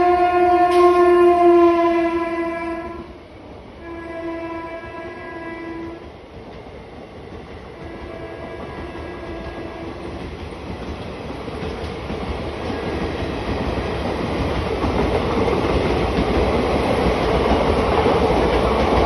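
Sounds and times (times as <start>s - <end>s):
train rumble and wheel noise: 0.0s - 19.0s.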